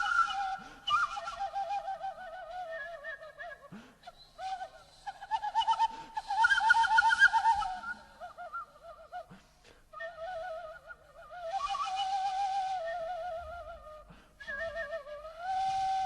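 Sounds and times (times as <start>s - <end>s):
breathy flute melody: 0.0s - 16.0s.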